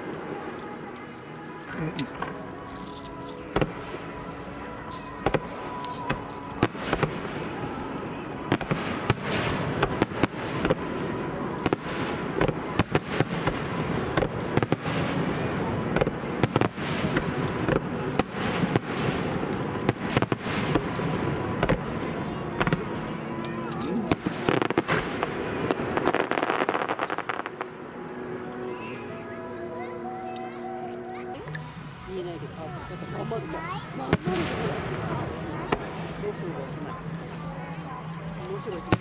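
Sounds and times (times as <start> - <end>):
fireworks bangs: 3.4 - 4.2, 4.8 - 29.7, 33.0 - 39.0.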